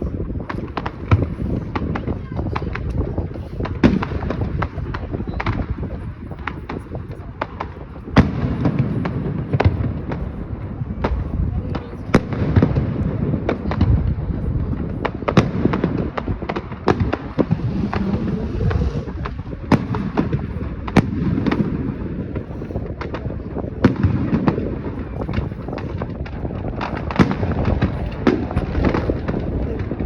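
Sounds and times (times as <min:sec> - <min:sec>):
fireworks bangs and pops: 0:00.0 - 0:30.0
low rumble of explosions: 0:00.0 - 0:30.0.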